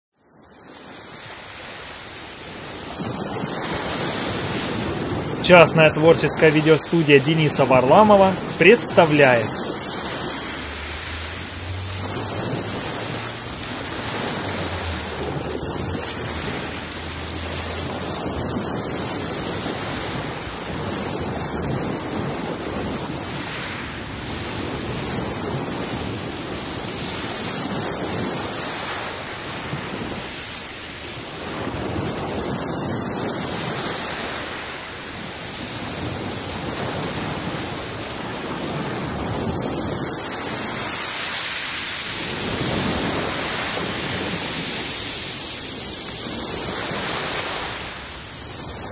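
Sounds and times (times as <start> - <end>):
waves breaking on pebble shore: 0.6 - 48.9.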